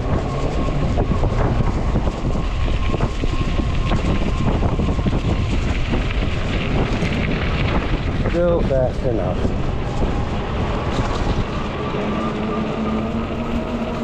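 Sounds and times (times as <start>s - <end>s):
bike tire road rumble: 0.0s - 14.0s
wind buffeting microphone: 0.0s - 14.0s.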